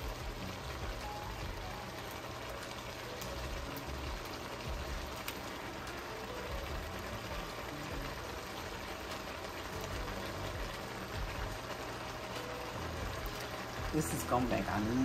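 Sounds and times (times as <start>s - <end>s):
soup simmering and bubbling: 0.0s - 15.0s.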